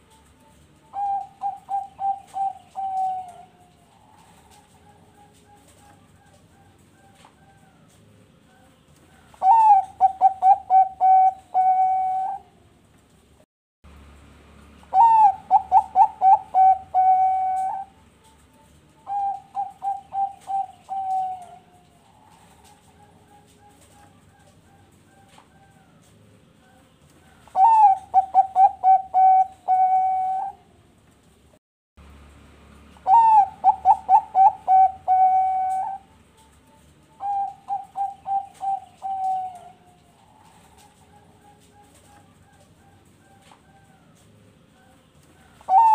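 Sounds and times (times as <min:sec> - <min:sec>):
dove cooing: 0:00.0 - 0:12.9, 0:14.8 - 0:31.0, 0:33.0 - 0:45.9.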